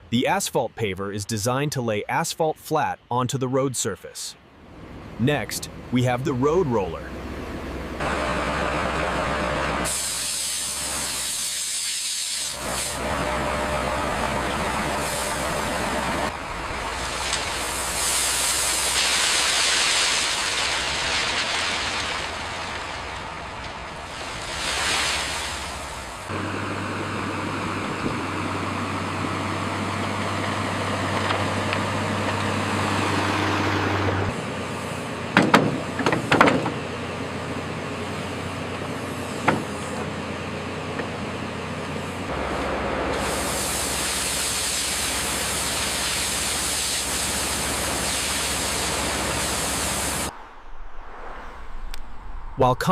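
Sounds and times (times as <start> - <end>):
diesel engines running: 0.0 - 50.3.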